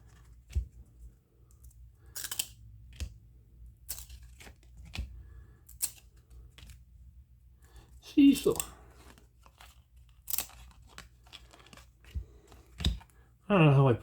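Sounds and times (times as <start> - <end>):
cards flipped by hand: 0.0 - 3.2, 3.8 - 6.9, 7.7 - 13.2.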